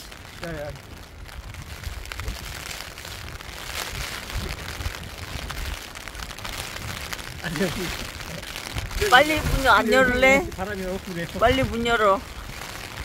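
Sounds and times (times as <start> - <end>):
heavy rain falling: 0.0 - 13.0
wind gusts on microphone: 0.0 - 13.0.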